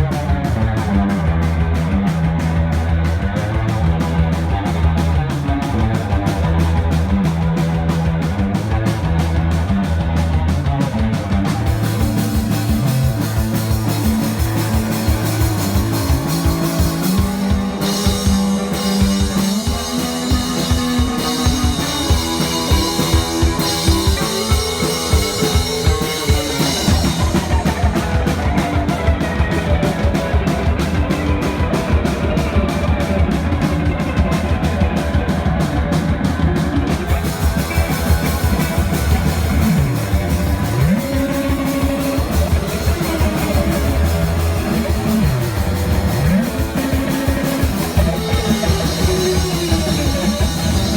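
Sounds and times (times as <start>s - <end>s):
drum kit beat: 0.0s - 50.9s
rock band playing: 0.0s - 50.9s.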